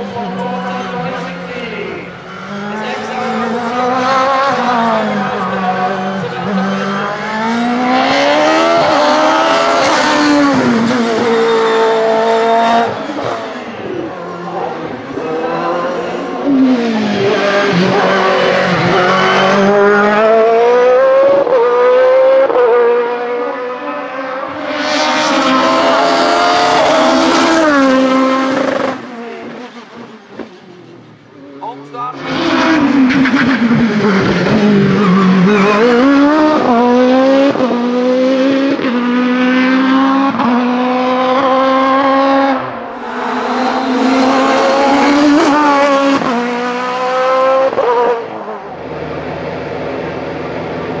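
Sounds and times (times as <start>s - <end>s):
race car engine accelerating: 0.0s - 51.0s.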